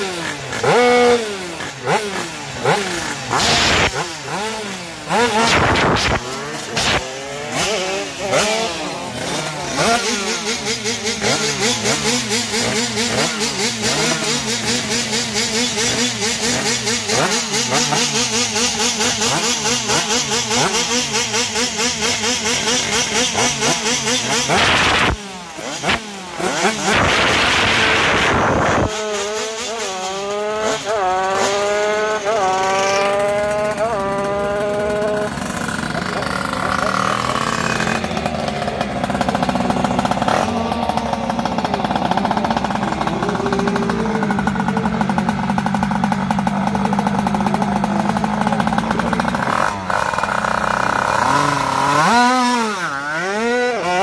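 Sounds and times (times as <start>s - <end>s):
moped engine revving: 0.0s - 54.0s.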